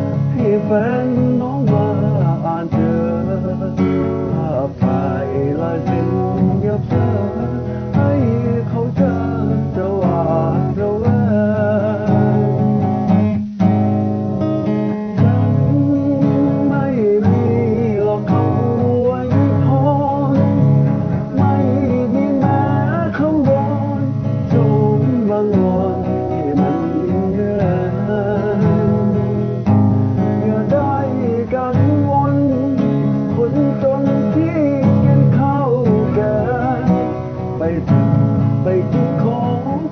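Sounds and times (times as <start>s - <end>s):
person singing: 0.0s - 13.6s, 15.0s - 39.9s
strummed acoustic guitar: 0.0s - 39.9s.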